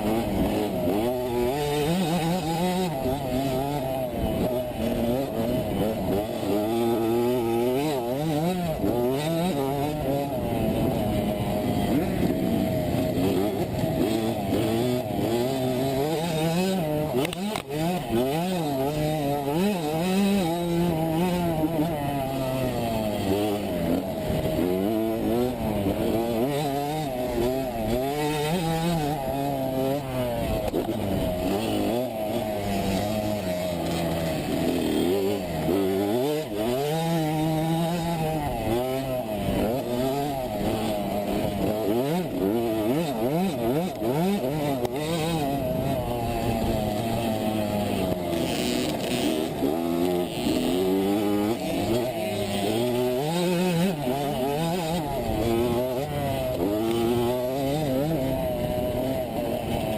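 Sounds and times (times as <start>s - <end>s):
two-stroke dirt bike engine revving: 0.0s - 59.9s.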